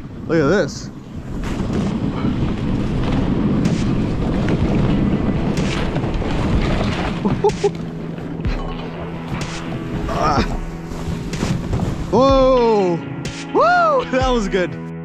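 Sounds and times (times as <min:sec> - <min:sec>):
sled runners scraping snow: 0:00.0 - 0:12.9
wind noise on microphone: 0:00.0 - 0:13.6.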